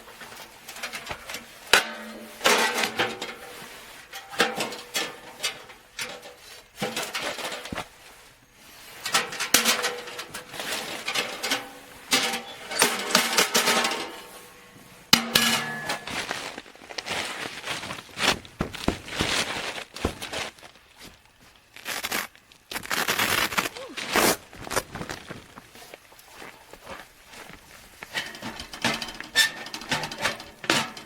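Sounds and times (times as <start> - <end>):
metal camping gear clattering: 0.0 - 21.5, 23.9 - 31.0.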